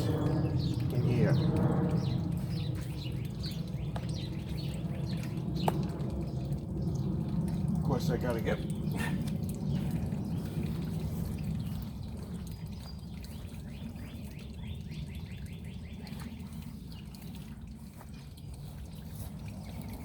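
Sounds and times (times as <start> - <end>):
faint trickle of water: 0.0 - 20.0
steady low rumble: 0.0 - 20.0.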